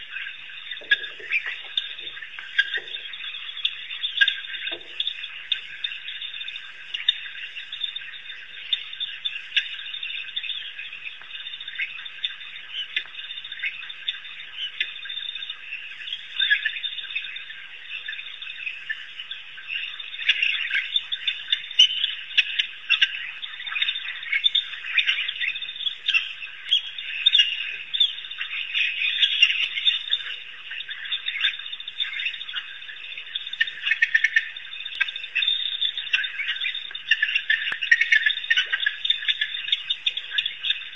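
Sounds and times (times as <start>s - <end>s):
wild dogs chirping chatter: 0.0s - 40.9s.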